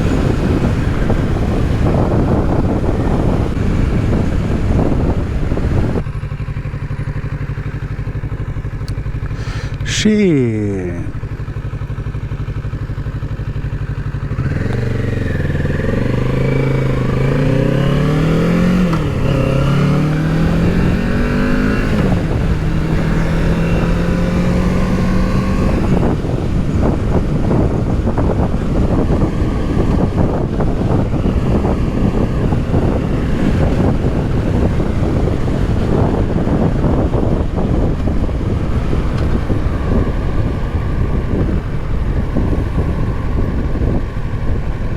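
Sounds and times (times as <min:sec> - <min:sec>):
wind rushing on microphone: 0:00.0 - 0:10.2, 0:12.6 - 0:44.9
motorcycle engine shifting gears: 0:00.0 - 0:44.9.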